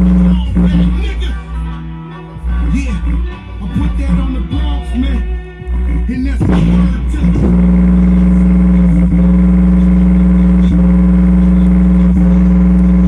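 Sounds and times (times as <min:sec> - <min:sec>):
subwoofer low bass tone: 0:00.0 - 0:13.0.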